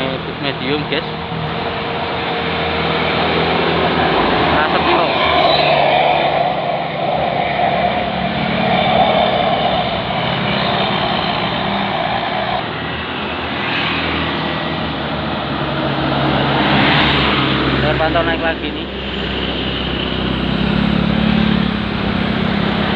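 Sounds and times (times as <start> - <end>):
bus diesel engine passing: 0.0 - 22.9
road noise: 0.0 - 22.9.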